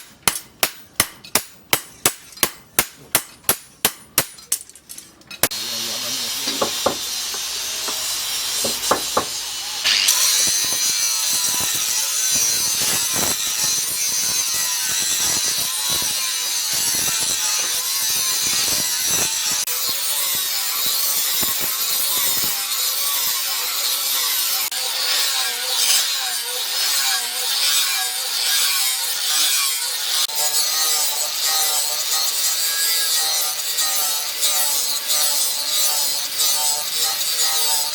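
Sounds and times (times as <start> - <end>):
sawing strokes: 5.4 - 37.9.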